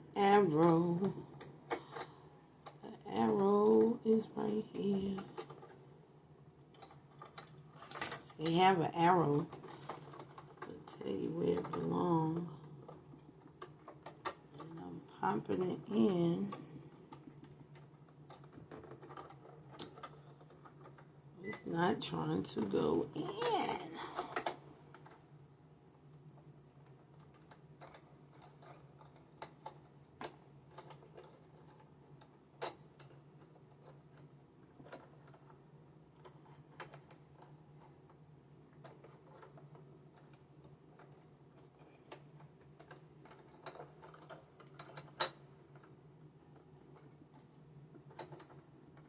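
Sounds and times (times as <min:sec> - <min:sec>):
faint low hum: 0:00.0 - 0:49.0.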